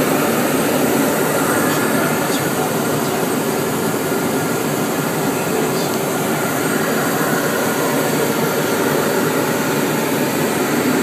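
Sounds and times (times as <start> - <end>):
jet cabin airflow and engine noise: 0.0 - 11.0.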